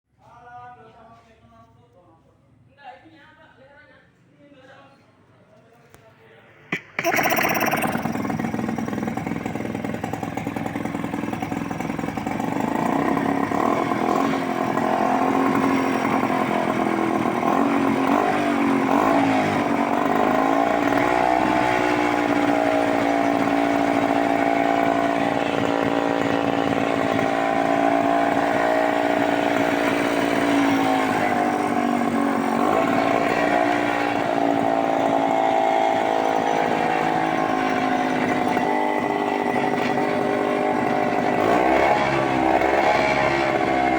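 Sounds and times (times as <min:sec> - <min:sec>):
motorcycle engine running: 0:06.7 - 0:43.9.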